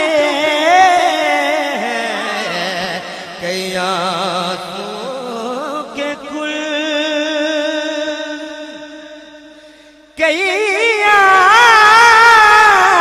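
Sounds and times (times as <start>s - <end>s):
man singing through a microphone: 0.0s - 13.0s.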